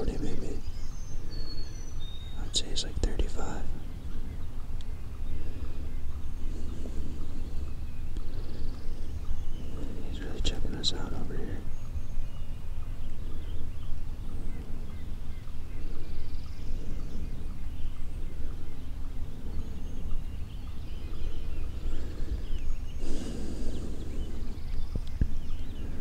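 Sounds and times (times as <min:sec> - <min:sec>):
low background rumble: 0:00.0 - 0:26.0
small birds chirping: 0:00.0 - 0:26.0.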